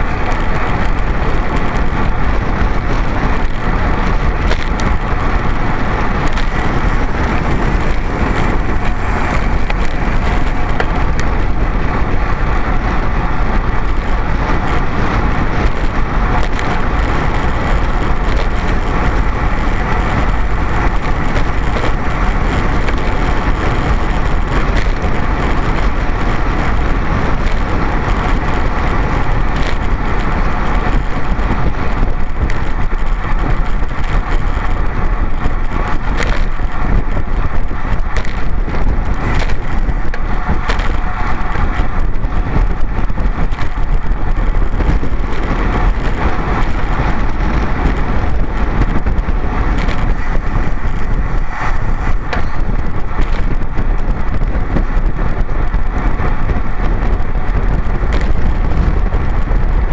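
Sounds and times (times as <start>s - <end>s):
tyre and road noise: 0.0s - 59.9s
wind buffeting microphone: 0.0s - 59.9s.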